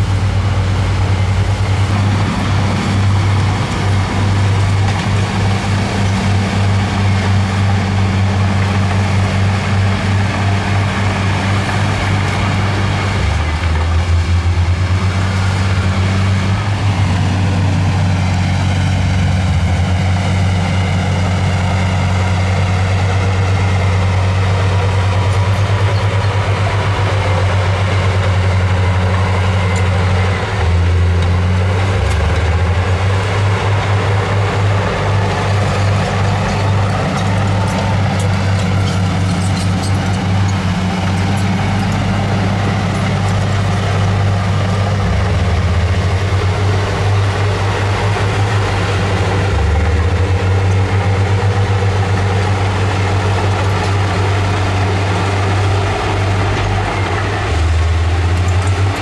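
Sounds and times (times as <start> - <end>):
heavy diesel engine rumbling: 0.0 - 59.0.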